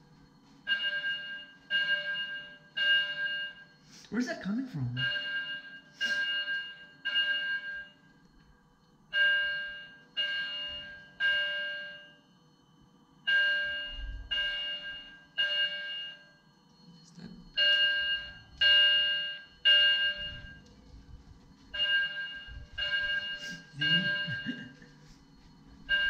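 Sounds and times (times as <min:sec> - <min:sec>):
fire alarm ringing: 0:00.0 - 0:26.0.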